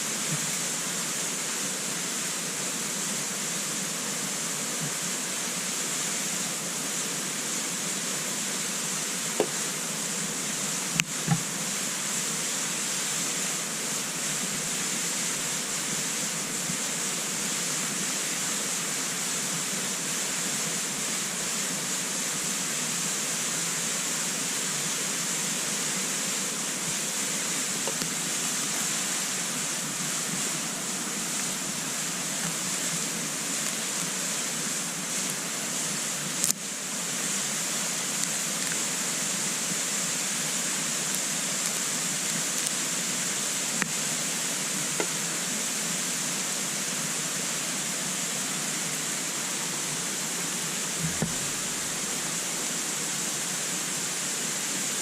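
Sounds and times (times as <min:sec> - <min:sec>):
wood fire hissing and crackling: 0:00.0 - 0:55.0.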